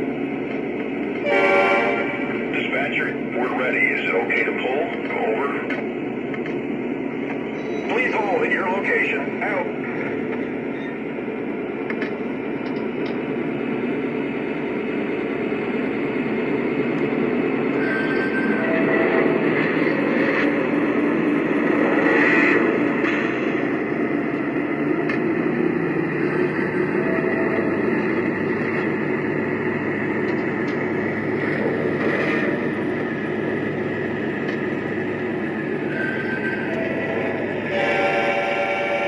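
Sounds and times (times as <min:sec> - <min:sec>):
diesel locomotive idling rumble: 0:00.0 - 0:39.0.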